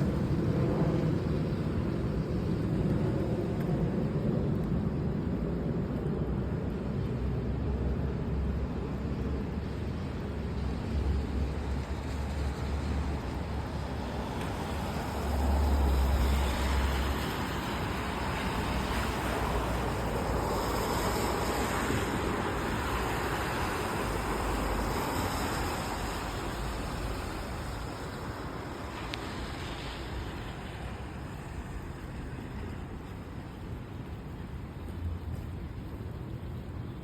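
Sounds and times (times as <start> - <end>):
rain: 0.0 - 37.0
steady low traffic rumble: 0.0 - 37.0
vehicle tyres hissing on wet road: 0.0 - 37.0.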